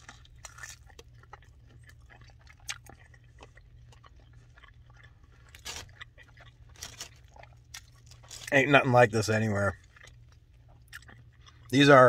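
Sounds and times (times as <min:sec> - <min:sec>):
person chewing wet food: 0:00.0 - 0:08.8, 0:09.4 - 0:12.0
steady low hum: 0:00.0 - 0:12.0.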